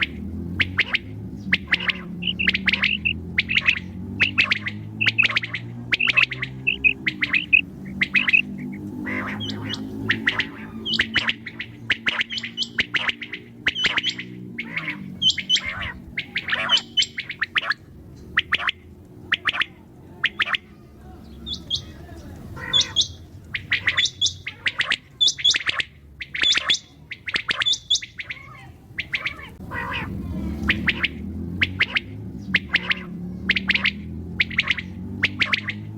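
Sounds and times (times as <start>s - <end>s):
quail calling: 0.0s - 35.9s.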